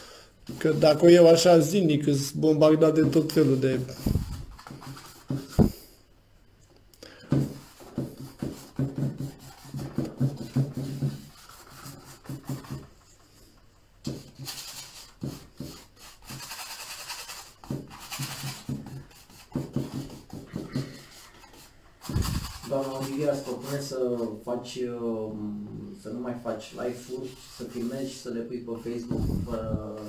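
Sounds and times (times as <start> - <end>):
bristle brush scrubbing canvas: 0.5 - 5.8, 7.4 - 13.4, 14.0 - 24.4, 26.6 - 30.0.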